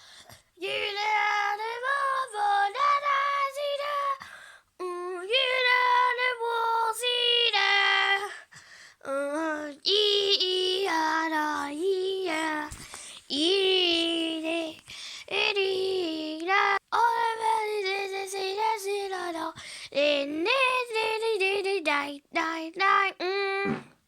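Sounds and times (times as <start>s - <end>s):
young child singing: 0.0s - 24.0s.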